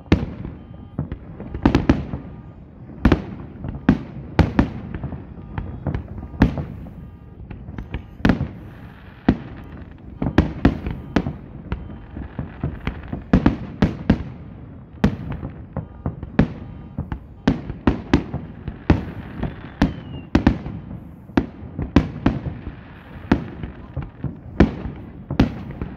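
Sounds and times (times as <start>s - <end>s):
fireworks bursting with sharp bangs: 0.0s - 25.9s.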